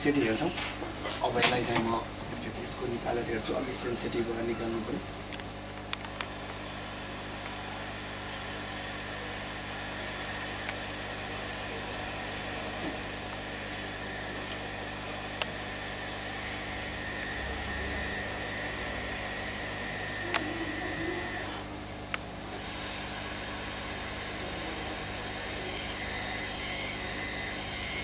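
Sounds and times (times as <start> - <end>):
hot-air station blowing: 0.0 - 28.0.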